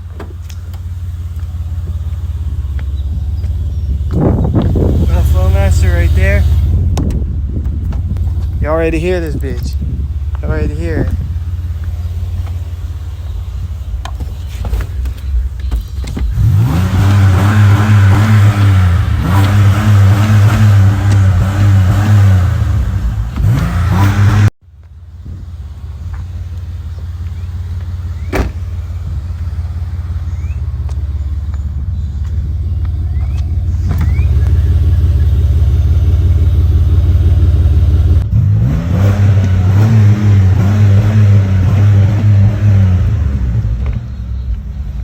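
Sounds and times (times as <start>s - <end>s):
engine idle rumble: 0.0s - 38.3s, 42.7s - 45.0s
car engine revving: 0.0s - 45.0s.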